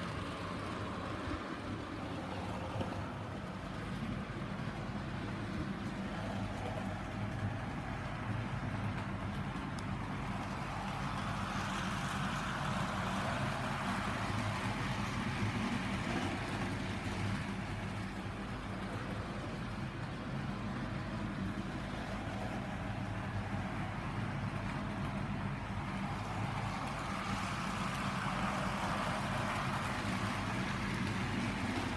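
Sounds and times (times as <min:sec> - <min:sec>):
wheels rumbling on rails: 0:00.0 - 0:31.9.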